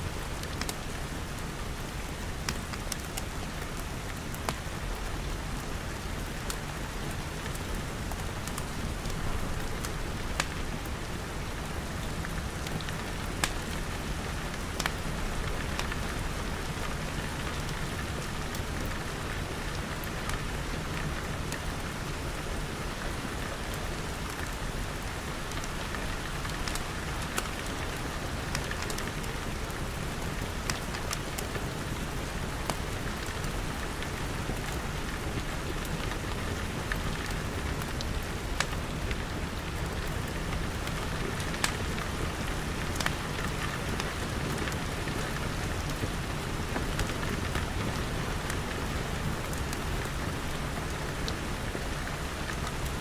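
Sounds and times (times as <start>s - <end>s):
rain falling on glass: 0.0s - 53.0s.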